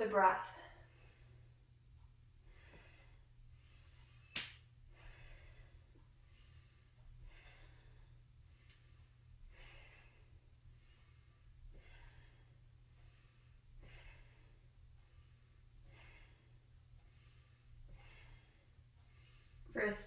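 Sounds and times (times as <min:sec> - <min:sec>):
low steady hum: 0:00.0 - 0:20.0
woman breathing: 0:00.4 - 0:20.0.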